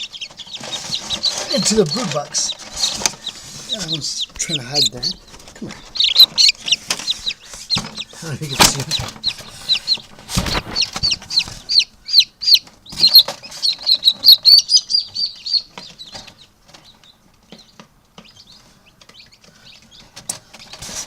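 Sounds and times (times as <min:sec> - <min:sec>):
chicks peeping: 0:00.0 - 0:21.0
rustling: 0:00.0 - 0:21.0.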